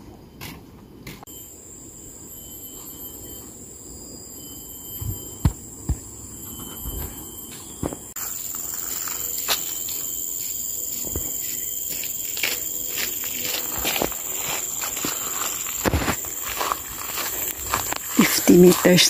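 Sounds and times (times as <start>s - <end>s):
high-pitched insect drone: 1.2s - 19.0s.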